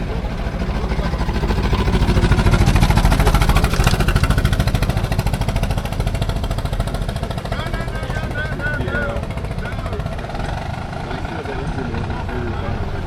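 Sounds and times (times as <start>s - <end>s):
antique car engine chugging: 0.0s - 13.0s.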